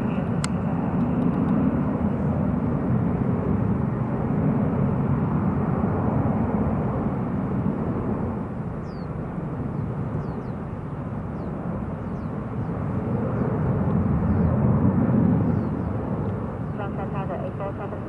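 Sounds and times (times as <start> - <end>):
distant jet engine rumble: 0.0 - 18.0.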